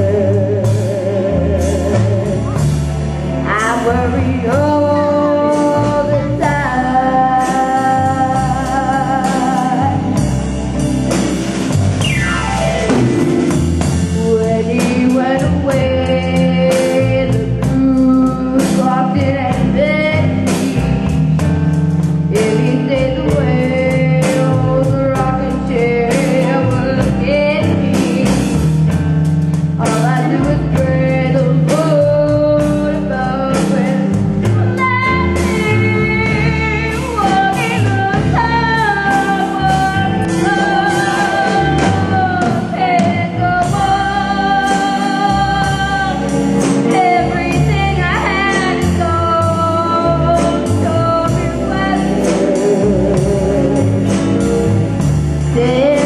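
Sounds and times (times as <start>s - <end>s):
child singing jazz: 0.0s - 2.7s, 3.4s - 10.3s, 13.8s - 21.1s, 22.3s - 28.6s, 29.8s - 54.2s, 55.5s - 56.0s
backing band with drums and guitar: 0.0s - 56.0s.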